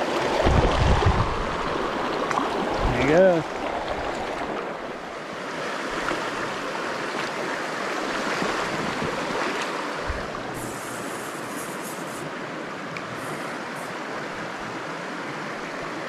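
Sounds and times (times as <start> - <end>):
creek water flowing: 0.0 - 16.0.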